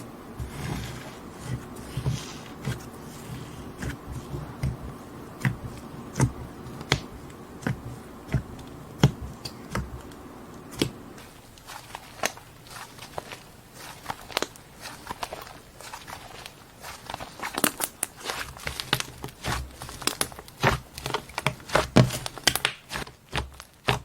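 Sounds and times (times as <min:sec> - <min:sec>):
crunchy slime crackling: 0:00.4 - 0:24.0.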